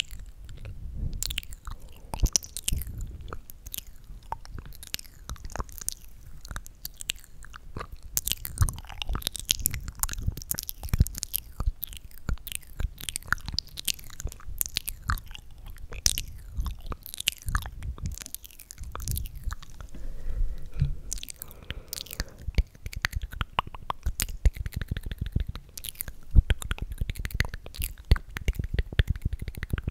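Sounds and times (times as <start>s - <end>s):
wet lip and tongue clicks: 0.0s - 19.9s, 20.8s - 29.9s.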